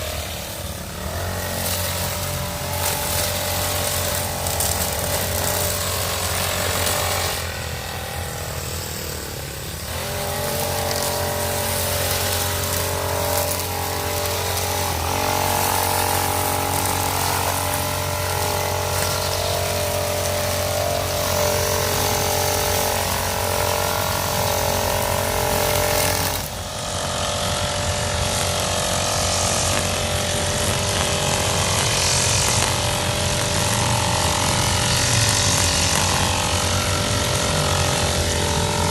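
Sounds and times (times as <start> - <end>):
brush cutter engine running: 0.0 - 38.9
nylon line cutting grass: 0.0 - 38.9.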